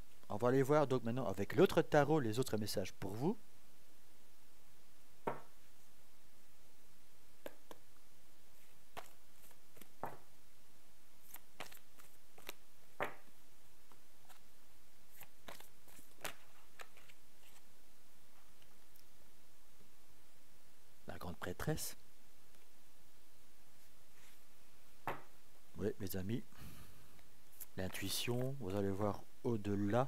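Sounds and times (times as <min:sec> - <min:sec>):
low hiss: 0:00.0 - 0:30.0.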